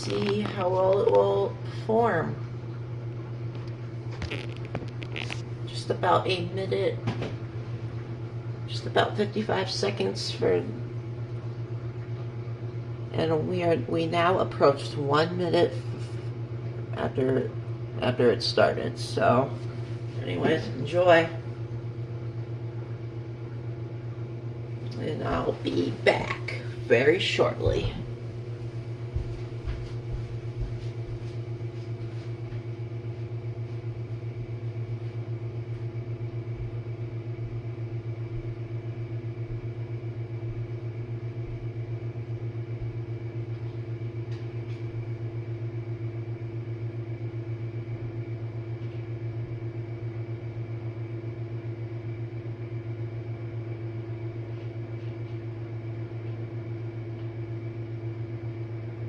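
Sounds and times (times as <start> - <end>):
dishwasher pump humming: 0.0 - 59.0.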